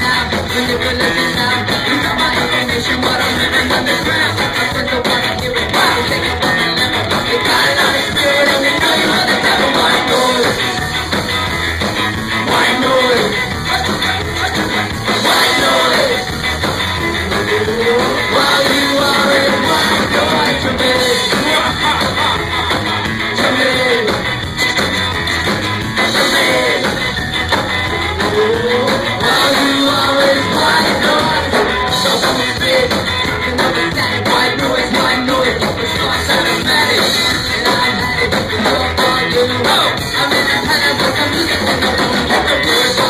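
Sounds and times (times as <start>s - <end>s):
person singing: 0.0s - 10.7s, 12.4s - 16.3s, 17.0s - 24.2s, 26.0s - 27.1s, 27.9s - 43.0s
ska-punk band playing live: 0.0s - 43.0s.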